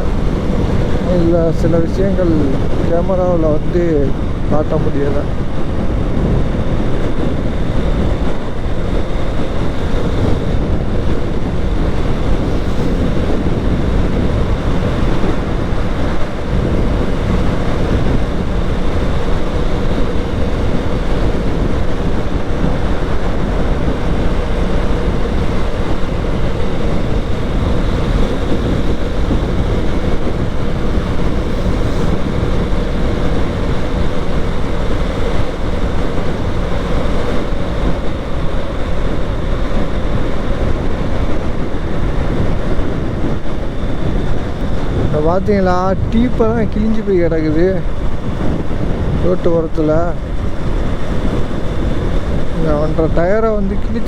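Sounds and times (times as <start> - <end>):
motorcycle engine running: 0.0 - 54.0
road noise: 0.0 - 54.0
wind buffeting microphone: 0.0 - 54.0.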